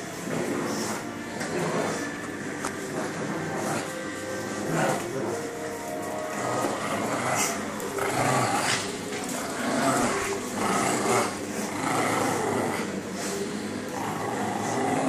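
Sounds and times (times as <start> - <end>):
dogs growling and playing: 0.0 - 15.0.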